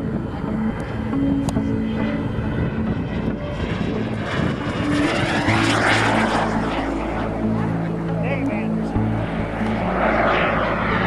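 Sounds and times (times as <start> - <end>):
model jet whooshing past: 0.0 - 11.0.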